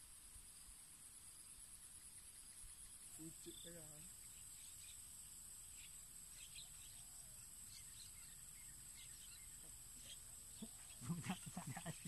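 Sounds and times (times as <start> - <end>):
faint bird chirps: 0.0 - 12.0
high insect drone: 0.0 - 12.0.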